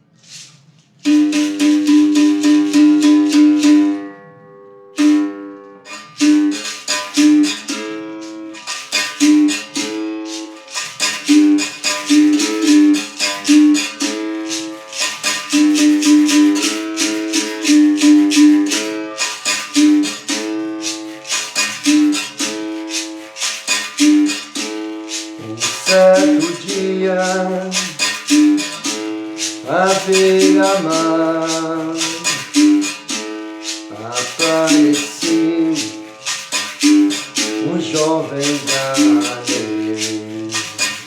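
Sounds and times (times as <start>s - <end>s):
shaker rattling: 0.0s - 4.0s, 5.0s - 41.0s
berimbau playing: 0.0s - 41.0s.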